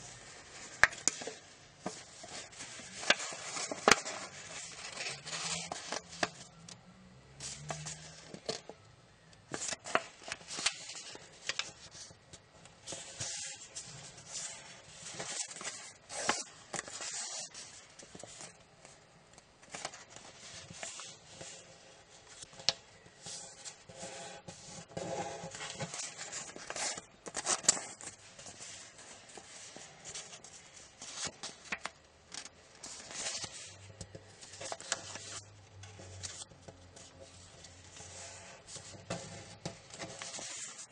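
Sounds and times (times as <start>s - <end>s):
paper crinkling and rustling: 0.0s - 6.7s, 9.5s - 19.0s, 19.6s - 40.9s.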